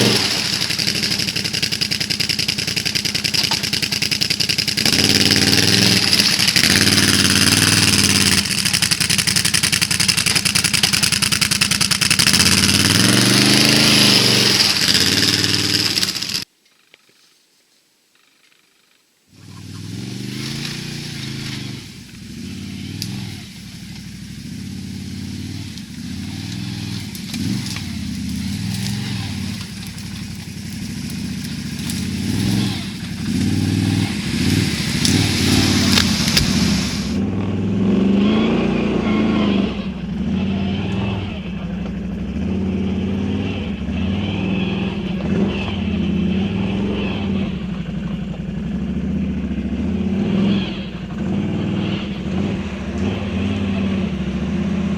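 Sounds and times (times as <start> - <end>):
atv engine revving: 0.0 - 16.5, 19.3 - 54.9.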